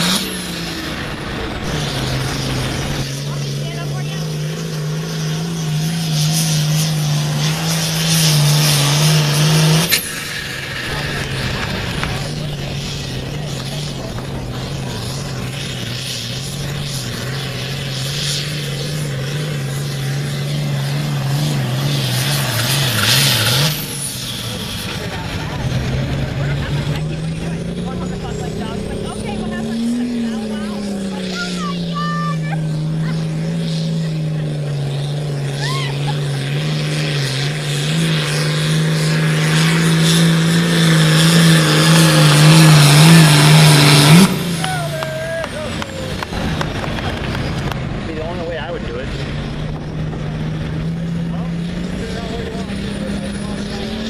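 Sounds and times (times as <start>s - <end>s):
diesel tractor engine revving: 0.0s - 54.0s.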